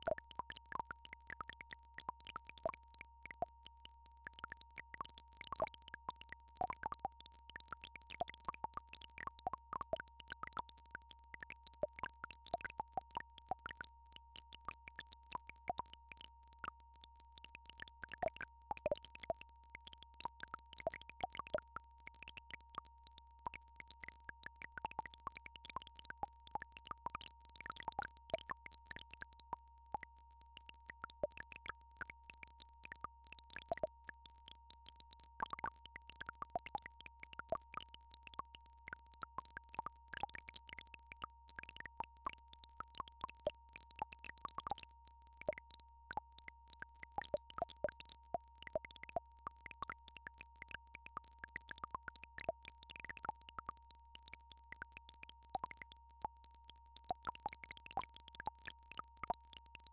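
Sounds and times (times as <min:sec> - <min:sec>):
short irregular clicks: 0:00.0 - 0:59.9.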